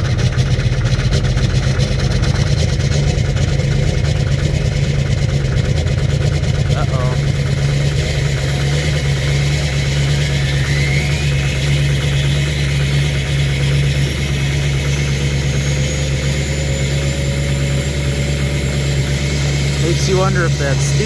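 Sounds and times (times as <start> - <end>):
diesel engine idling roughly: 0.0 - 21.0.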